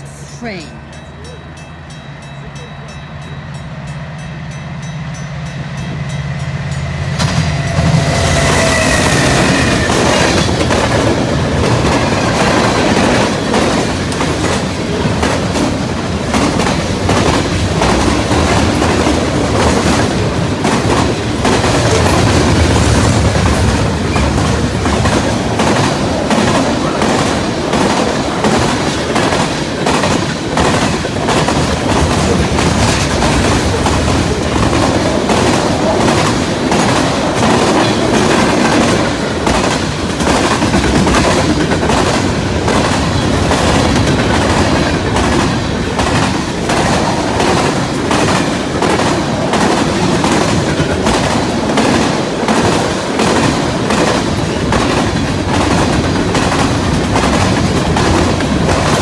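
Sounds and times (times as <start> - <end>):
train wheels clicking over rail joints: 0.9 - 59.0.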